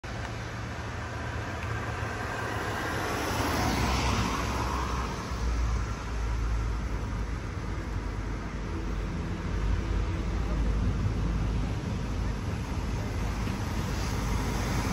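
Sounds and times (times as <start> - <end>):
diesel engine rumble: 0.0 - 14.9.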